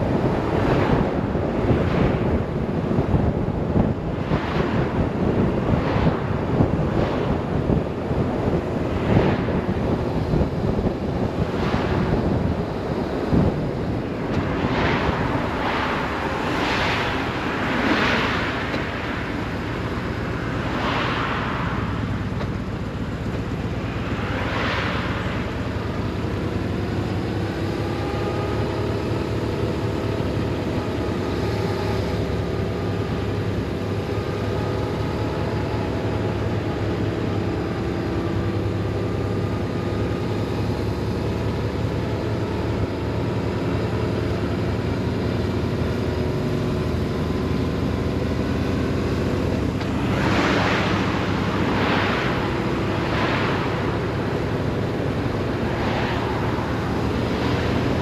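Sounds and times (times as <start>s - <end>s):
wind noise: 0.0s - 58.0s.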